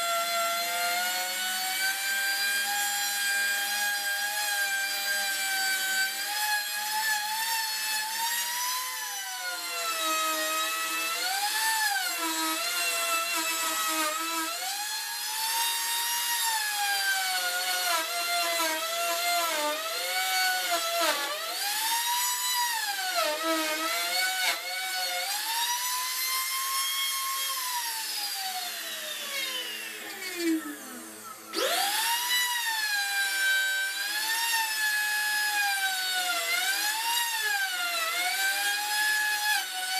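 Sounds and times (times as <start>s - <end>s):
trim router whining: 0.0s - 39.9s.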